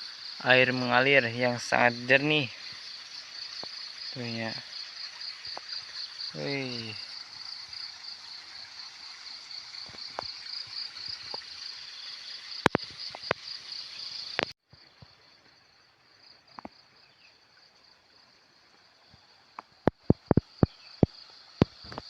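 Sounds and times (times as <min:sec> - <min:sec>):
insects chorus: 0:00.0 - 0:22.0
running ditch water: 0:00.0 - 0:22.0.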